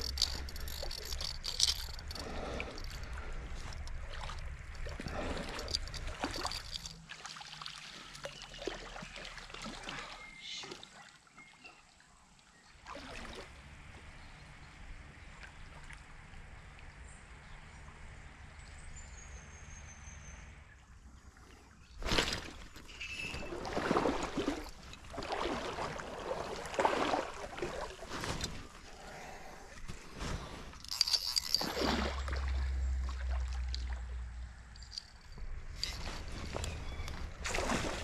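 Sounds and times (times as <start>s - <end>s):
stream water running: 0.0s - 18.4s, 20.8s - 38.0s.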